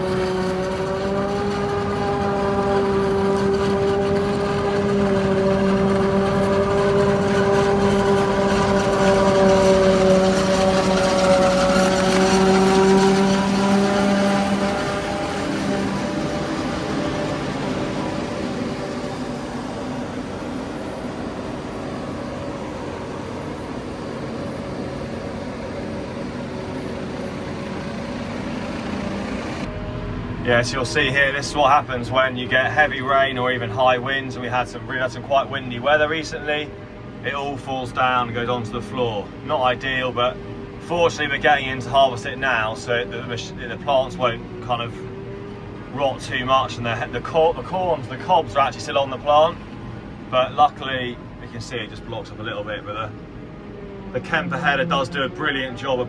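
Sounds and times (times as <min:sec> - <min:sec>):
forage harvester high whine: 0:00.0 - 0:56.0.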